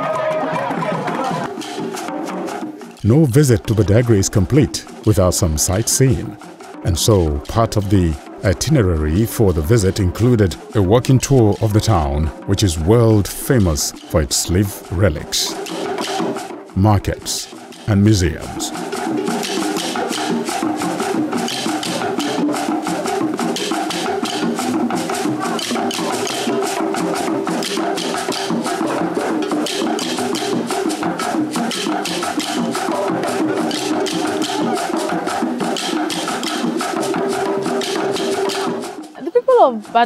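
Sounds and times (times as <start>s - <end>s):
background music with clicking beat: 0.0s - 40.0s.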